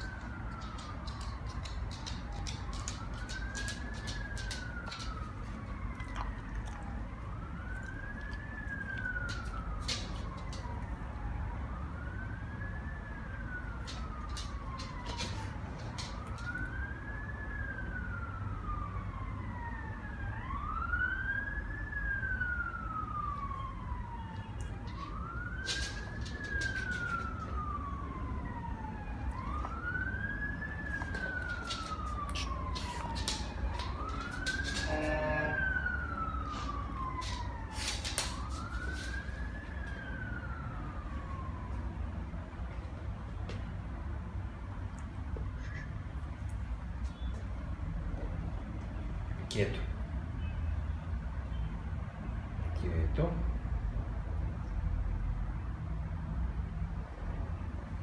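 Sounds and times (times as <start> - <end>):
siren wailing: 0.0 - 49.3.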